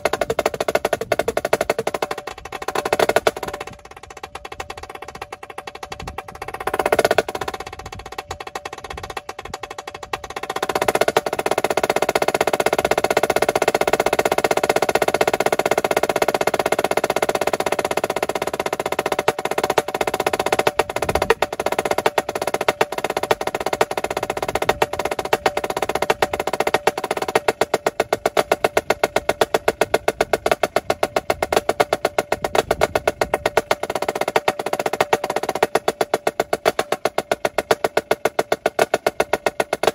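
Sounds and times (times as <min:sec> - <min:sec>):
snare drum solo: 0:00.0 - 0:03.8, 0:06.3 - 0:07.7, 0:09.4 - 0:39.9.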